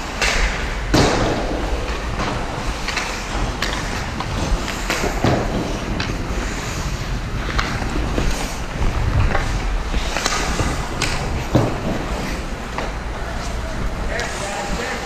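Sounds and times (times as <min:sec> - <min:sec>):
hockey sticks and puck clacking: 0:00.0 - 0:15.0
skates scraping on ice: 0:00.0 - 0:15.0
steady low rumble: 0:00.0 - 0:15.0.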